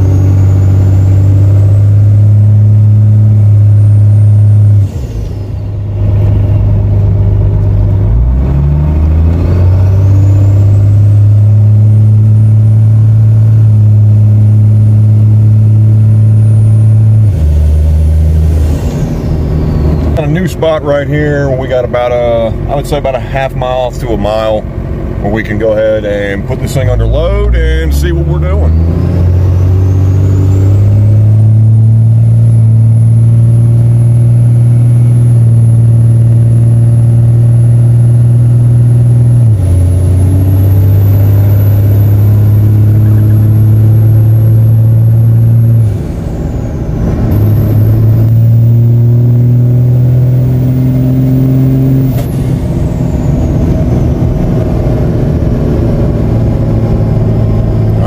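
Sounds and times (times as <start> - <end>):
diesel engine pulling under load: 0.0 - 58.0.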